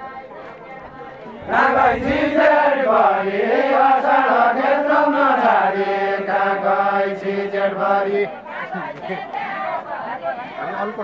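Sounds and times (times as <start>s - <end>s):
men singing in chorus: 0.9s - 11.0s.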